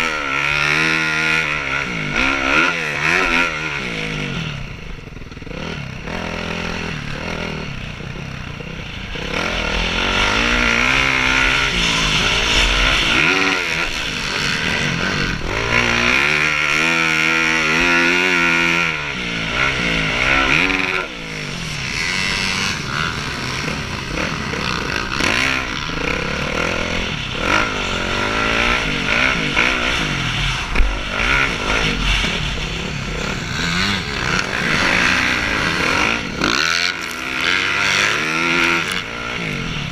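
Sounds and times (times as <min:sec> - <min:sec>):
motocross bikes revving: 0:00.0 - 0:39.9.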